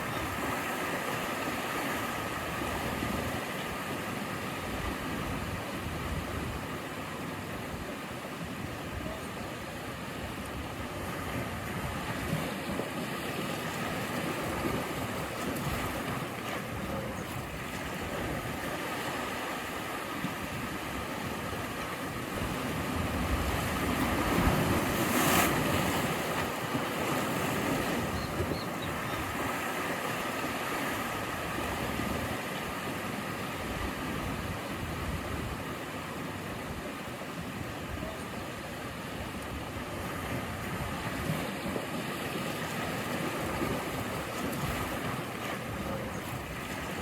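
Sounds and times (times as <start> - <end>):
ocean waves breaking: 0.0 - 47.0.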